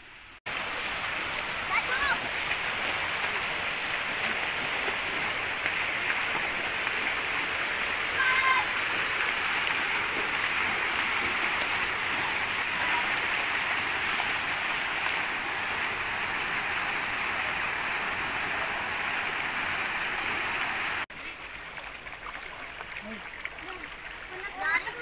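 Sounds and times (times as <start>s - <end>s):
small waterfall splashing into pool: 0.4s - 25.0s.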